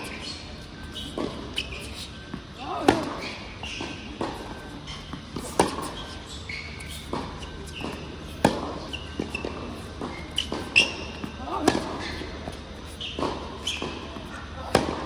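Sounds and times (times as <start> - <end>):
shoes squeaking on court: 0.0 - 15.0
tennis ball struck by rackets: 1.1 - 6.1, 6.8 - 12.5, 13.2 - 15.0.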